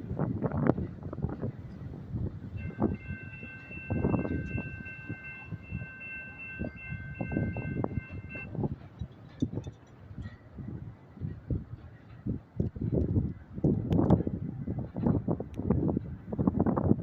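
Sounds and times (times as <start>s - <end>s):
freight train rolling by: 0.0s - 17.0s.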